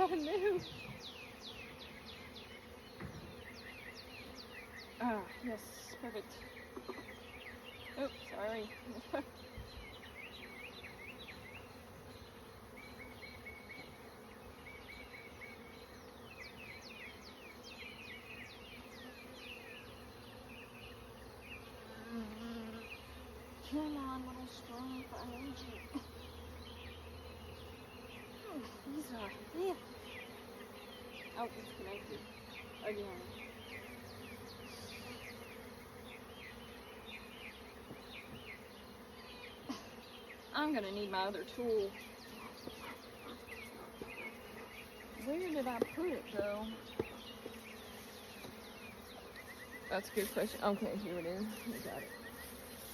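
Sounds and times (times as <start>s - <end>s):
honeybees buzzing: 0.0s - 52.9s.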